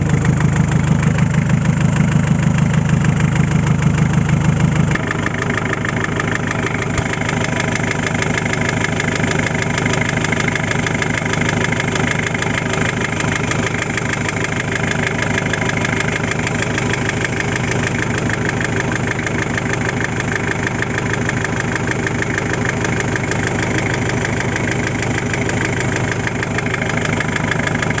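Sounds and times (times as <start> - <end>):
diesel engine idling: 0.0 - 28.0
regular engine knock: 0.0 - 28.0.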